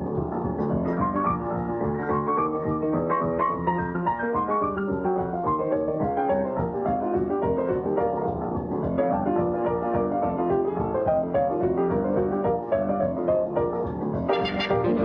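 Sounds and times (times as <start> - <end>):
boogie-woogie piano: 0.0 - 15.0.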